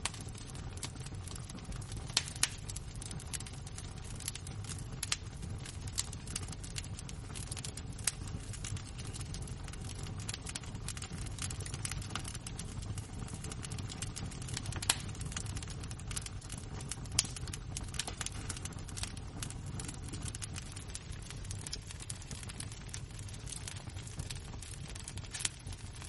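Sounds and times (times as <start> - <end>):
fire roaring low: 0.0 - 26.0
wood fire crackling: 0.0 - 26.0.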